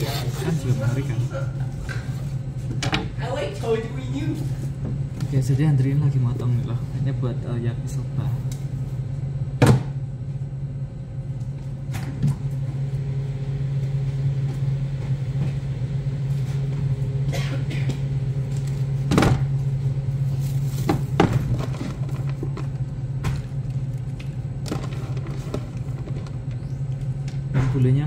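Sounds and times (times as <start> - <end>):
kitchen equipment humming: 0.0 - 28.0.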